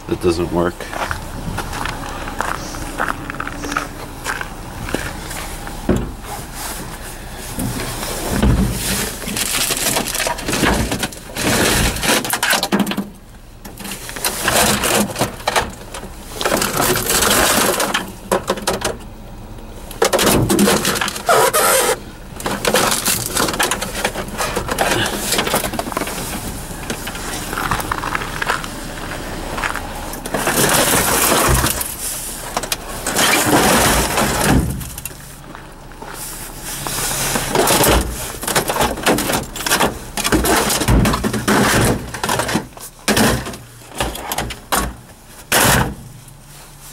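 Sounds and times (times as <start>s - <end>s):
junk clattering and crunching: 0.0s - 46.9s.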